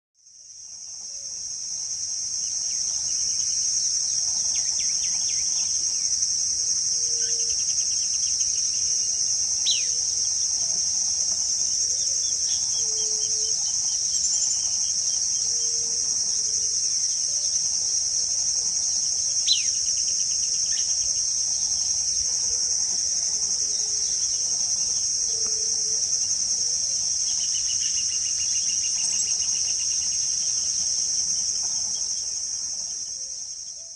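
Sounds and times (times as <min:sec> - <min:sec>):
high-pitched insect chorus: 0:00.2 - 0:33.9.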